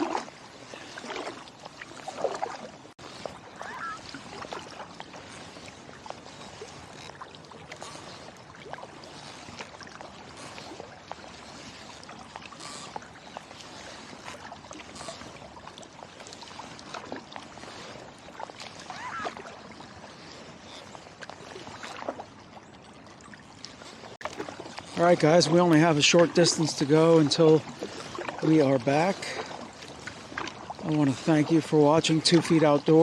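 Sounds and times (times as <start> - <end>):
paddle splashing in water: 0.0 - 33.0
water dripping off paddle: 0.0 - 33.0.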